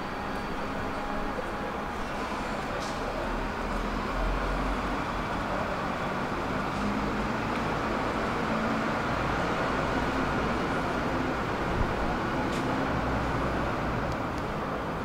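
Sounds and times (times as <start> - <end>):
vehicle rumble with hiss: 0.0 - 15.0.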